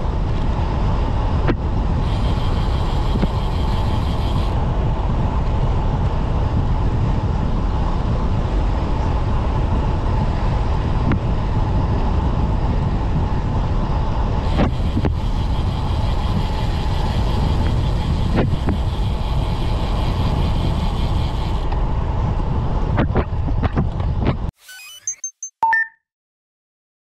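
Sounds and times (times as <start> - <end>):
bike tyre rumble: 0.0 - 24.5
wind rushing over microphone: 0.0 - 24.5.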